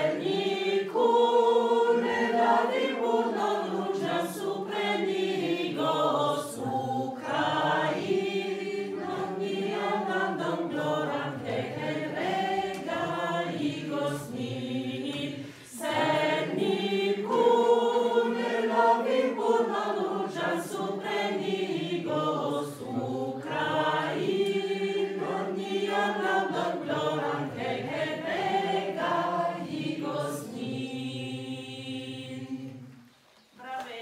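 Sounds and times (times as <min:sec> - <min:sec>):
woman and girls singing: 0:00.0 - 0:34.0.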